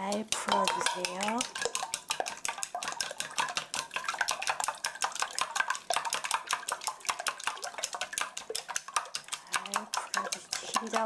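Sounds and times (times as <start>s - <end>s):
chopsticks beating eggs in metal bowl: 0.0s - 11.0s.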